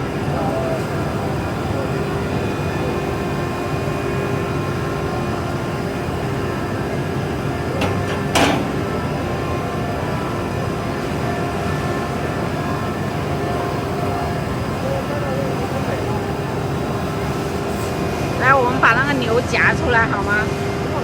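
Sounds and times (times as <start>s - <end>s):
laser cutting machine humming: 0.0s - 21.0s.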